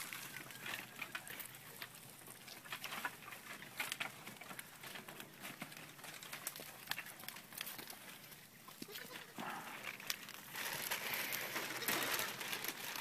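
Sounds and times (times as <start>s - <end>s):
light clicks and crackles: 0.0s - 13.0s.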